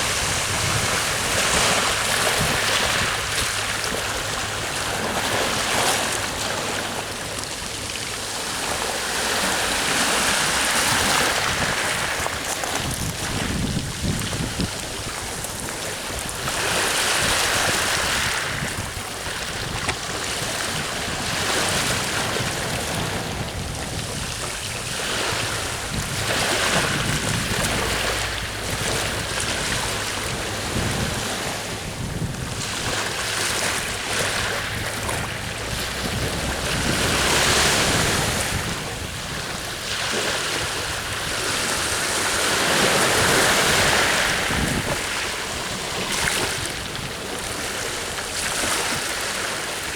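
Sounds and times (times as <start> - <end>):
sea waves breaking on shore: 0.0 - 49.9
wind on microphone: 0.0 - 49.9.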